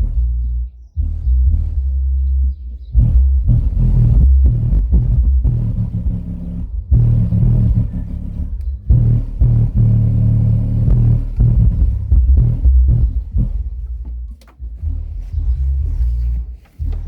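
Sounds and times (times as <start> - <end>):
deep bass notes: 0.0 - 17.0.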